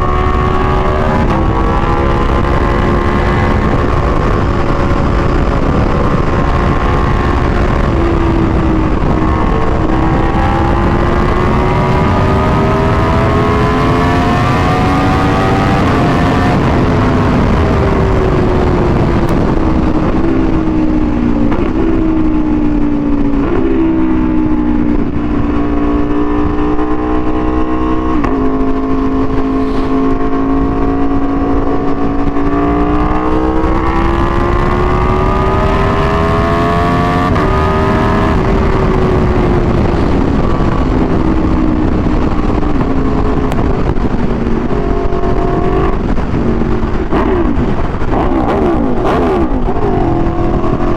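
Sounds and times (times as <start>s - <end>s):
low rumble: 0.0s - 50.9s
motorcycle engine revving: 0.0s - 50.9s.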